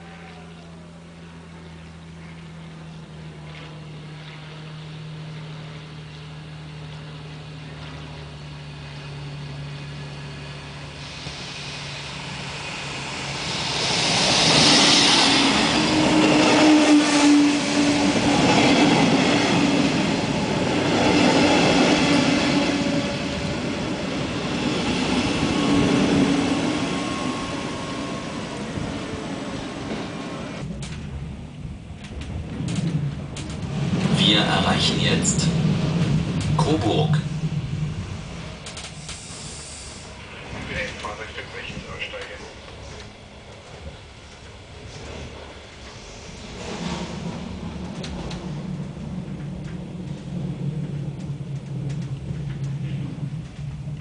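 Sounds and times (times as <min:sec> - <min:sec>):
train running in: 0:00.0 - 0:54.0.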